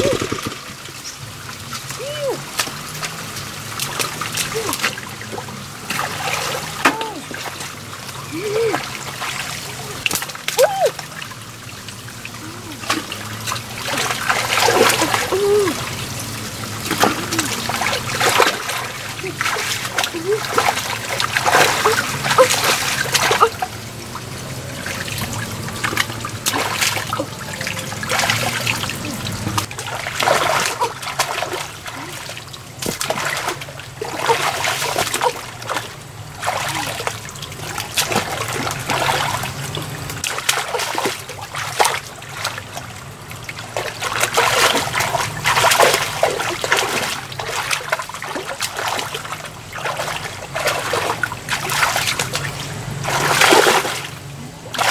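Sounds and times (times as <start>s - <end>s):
muddy water splashing: 0.0s - 54.9s
water trickling from hose: 0.0s - 54.9s.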